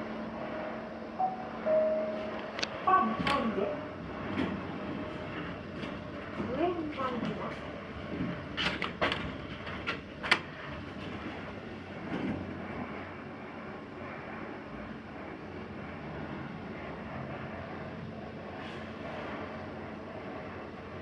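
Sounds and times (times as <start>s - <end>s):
elevator car running: 0.0s - 21.0s.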